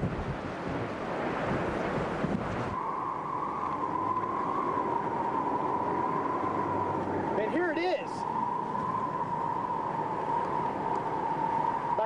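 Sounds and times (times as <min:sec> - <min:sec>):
wind buffeting microphone: 0:00.0 - 0:12.0
wavering whine: 0:00.9 - 0:12.0.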